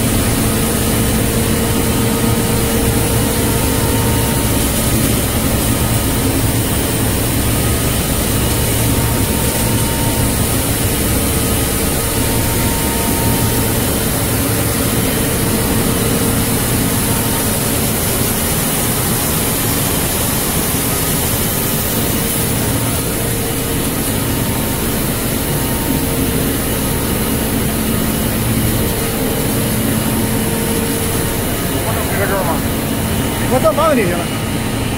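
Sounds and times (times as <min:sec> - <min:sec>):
faint steady hum tones: 0:00.0 - 0:34.9
production line mechanical drone: 0:00.0 - 0:34.9.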